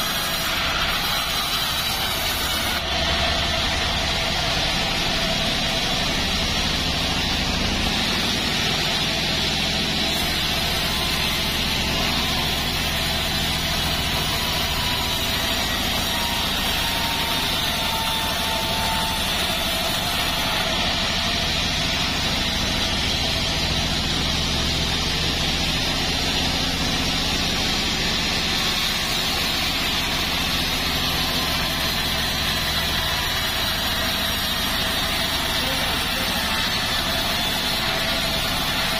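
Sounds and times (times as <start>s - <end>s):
band sawmill cutting log: 0.0s - 38.9s
high whine from saw blade: 0.0s - 38.9s.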